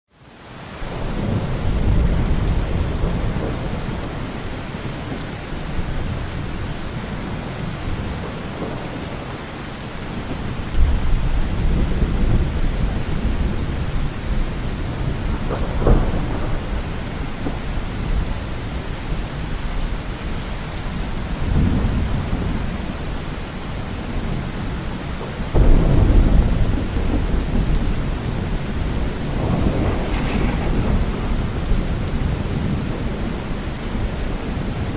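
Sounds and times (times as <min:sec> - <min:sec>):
steady rain: 0:00.1 - 0:34.9
thunder rumbling: 0:00.9 - 0:34.9.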